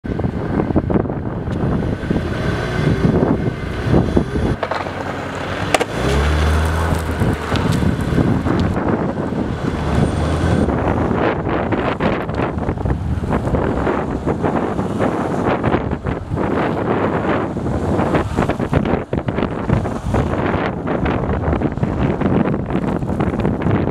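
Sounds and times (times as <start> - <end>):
wind buffeting microphone: 0.0 - 23.9
car engine running: 0.9 - 20.1.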